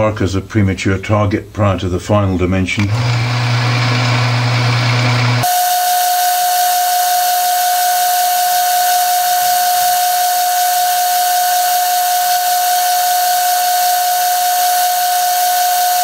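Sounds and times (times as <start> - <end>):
lathe whining: 2.8 - 16.0.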